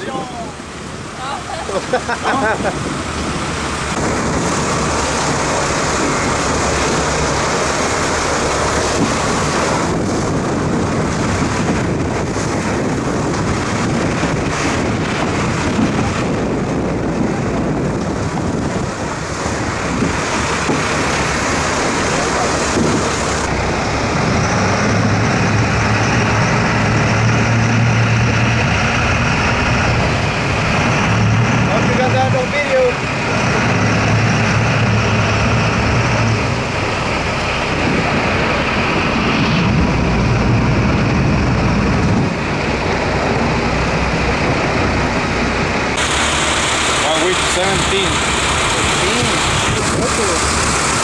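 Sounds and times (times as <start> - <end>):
boat engine droning: 0.0 - 51.0
rushing sea water: 0.0 - 51.0
wind buffeting microphone: 0.0 - 51.0.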